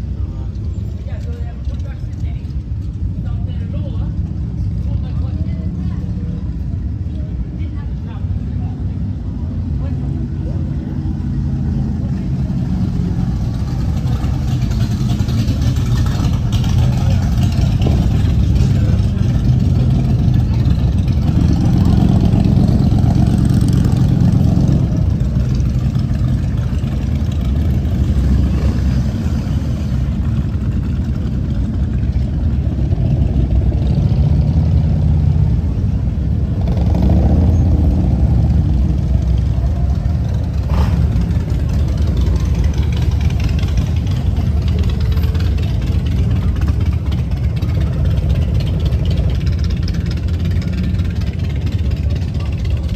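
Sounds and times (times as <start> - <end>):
motorcycle engine running: 8.3 - 52.9.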